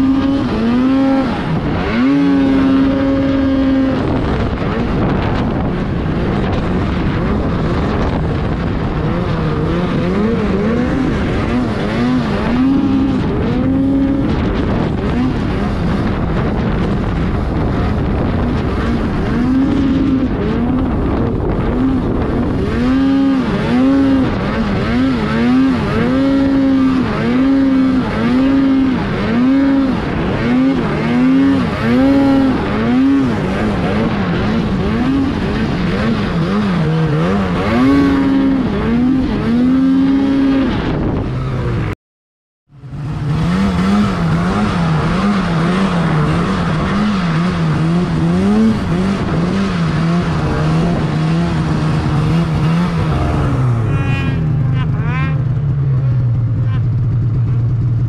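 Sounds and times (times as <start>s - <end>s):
snowmobile engine revving: 0.0s - 42.0s, 42.8s - 58.0s.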